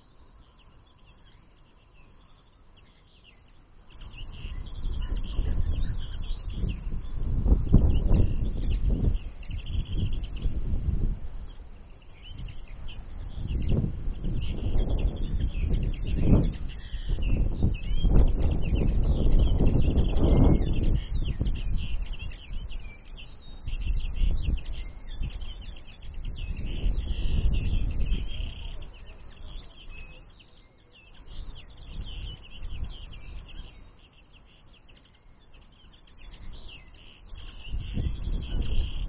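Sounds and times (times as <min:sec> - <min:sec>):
birds twittering: 0:00.0 - 0:39.0
wind buffeting microphone: 0:02.8 - 0:30.3, 0:31.1 - 0:34.0, 0:35.4 - 0:39.0.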